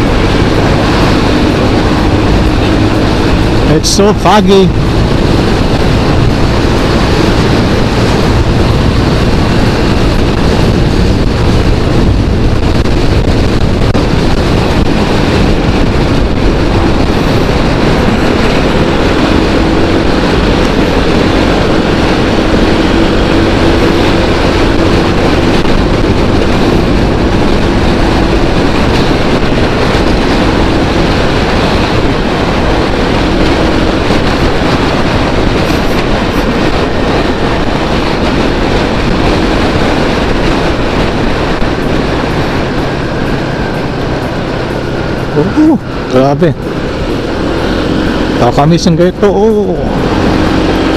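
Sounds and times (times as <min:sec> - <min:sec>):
vehicle road and wind noise: 0:00.0 - 0:50.9.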